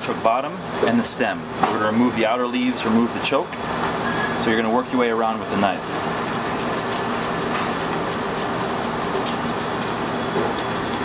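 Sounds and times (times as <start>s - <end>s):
ventilation rushing: 0.0s - 11.0s.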